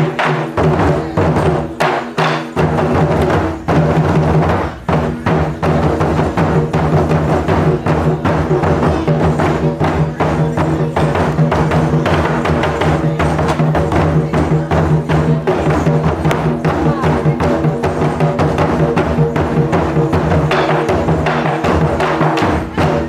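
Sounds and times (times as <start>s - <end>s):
drum ensemble playing: 0.0s - 23.0s.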